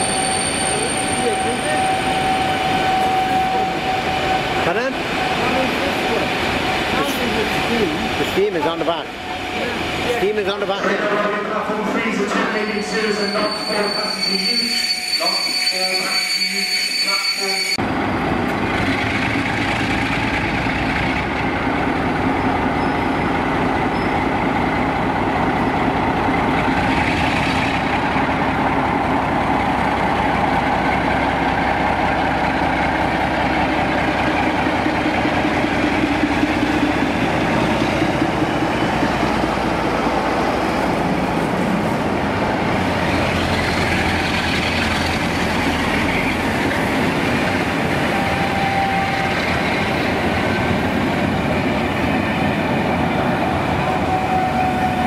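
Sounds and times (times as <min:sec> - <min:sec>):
diesel locomotive engine running: 0:00.0 - 0:12.2, 0:17.8 - 0:55.0.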